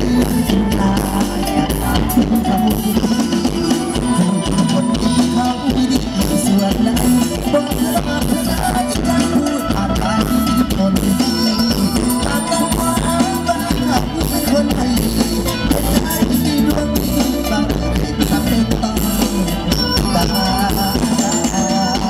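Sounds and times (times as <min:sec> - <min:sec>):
drum kit beat: 0:00.0 - 0:22.0
live band music over loudspeakers: 0:00.0 - 0:22.0.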